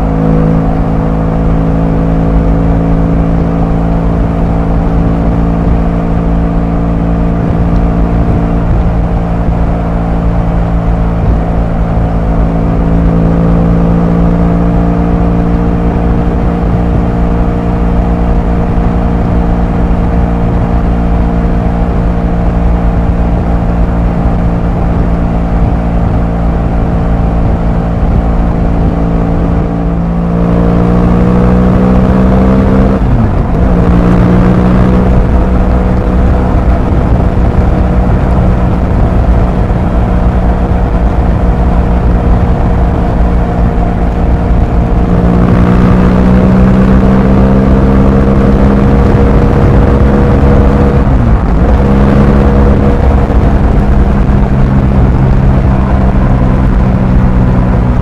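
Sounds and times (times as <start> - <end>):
motorcycle engine cruising: 0.0 - 58.0
wind noise: 0.0 - 58.0.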